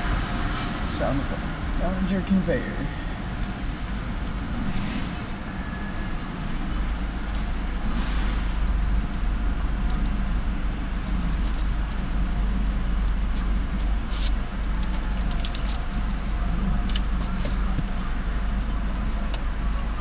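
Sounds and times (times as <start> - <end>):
car engine idling: 0.0 - 20.0
passing traffic: 0.0 - 20.0.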